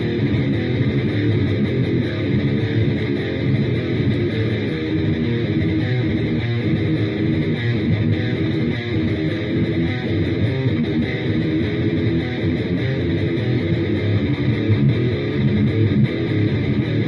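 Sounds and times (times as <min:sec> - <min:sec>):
guitar playing a riff: 0:00.0 - 0:17.0.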